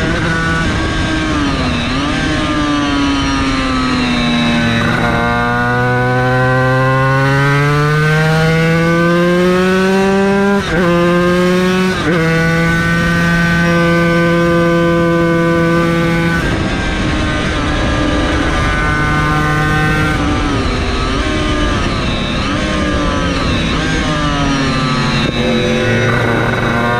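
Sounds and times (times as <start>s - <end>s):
racing engine pulling hard: 0.0s - 26.9s.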